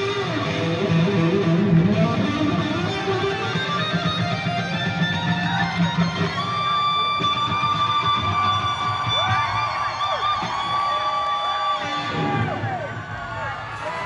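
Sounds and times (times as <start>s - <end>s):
electric guitar solo: 0.0s - 13.4s.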